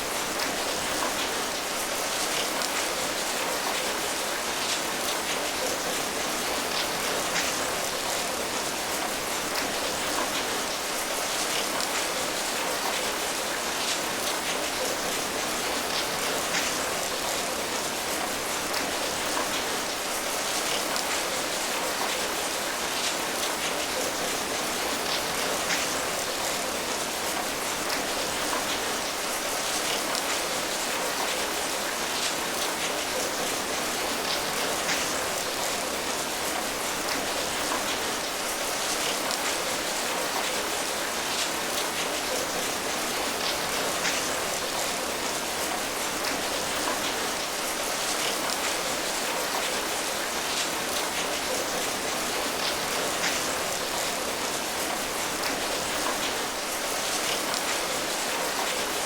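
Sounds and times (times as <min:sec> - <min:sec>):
raindrops pattering on surface: 0:00.0 - 0:59.0
steady rain hiss: 0:00.0 - 0:59.0.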